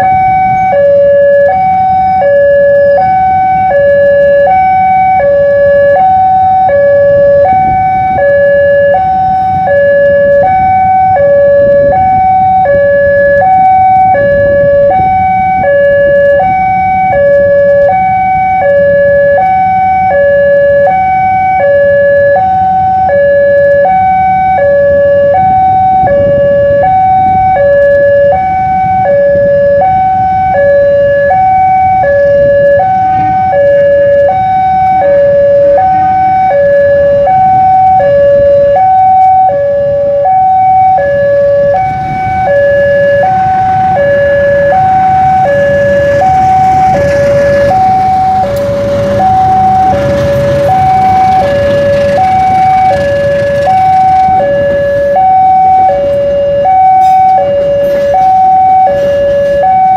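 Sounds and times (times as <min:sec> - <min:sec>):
two-tone crossing alarm: 0:00.0 - 0:59.9.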